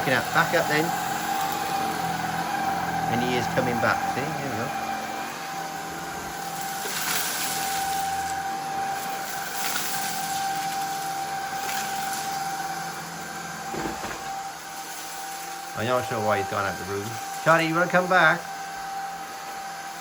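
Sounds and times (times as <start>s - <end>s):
cordless vacuum motor whine: 0.0s - 20.0s.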